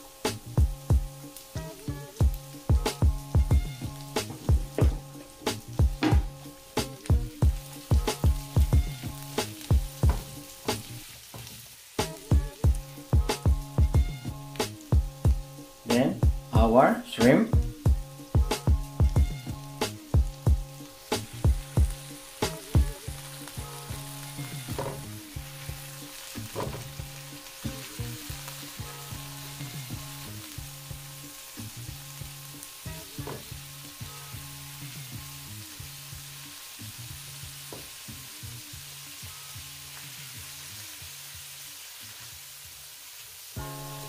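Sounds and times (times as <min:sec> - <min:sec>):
soft background music: 0:00.0 - 0:43.0, 0:43.6 - 0:44.0
food sizzling in oil: 0:00.0 - 0:44.0.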